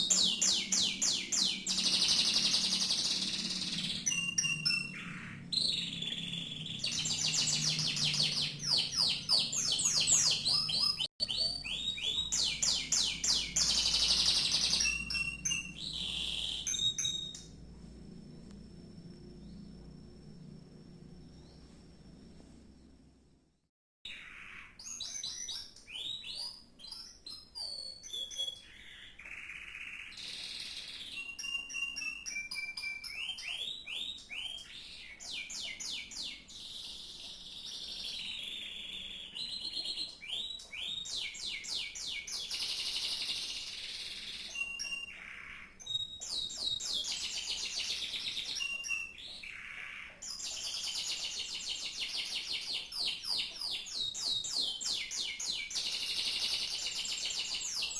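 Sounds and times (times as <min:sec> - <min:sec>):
canary singing: 0:00.0 - 0:17.6, 0:24.1 - 0:57.9.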